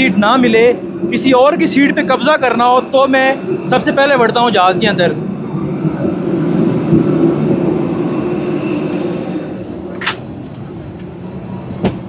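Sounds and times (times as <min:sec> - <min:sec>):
jet airliner hum and rush: 0:00.0 - 0:12.0.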